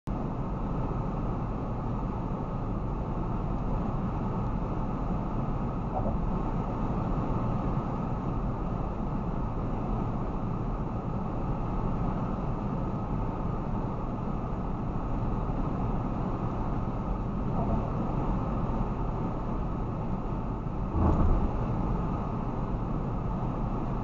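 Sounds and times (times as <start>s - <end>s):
road and tyre noise: 0.1s - 24.0s.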